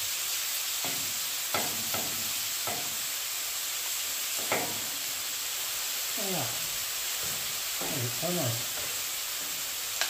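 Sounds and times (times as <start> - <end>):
chicken sizzling on a griddle: 0.0 - 10.0.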